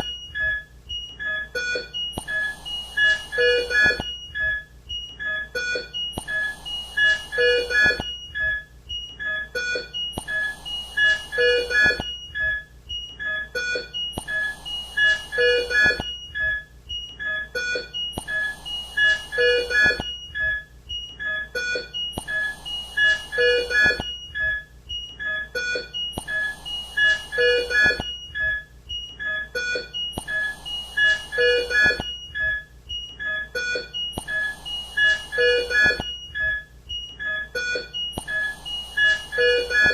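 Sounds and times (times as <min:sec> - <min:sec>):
monitor alarm beeps: 0:00.0 - 0:39.9.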